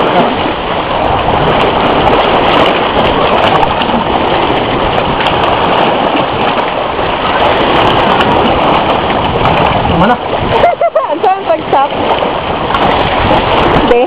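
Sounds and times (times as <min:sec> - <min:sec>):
water swirling and splashing: 0:00.0 - 0:14.0.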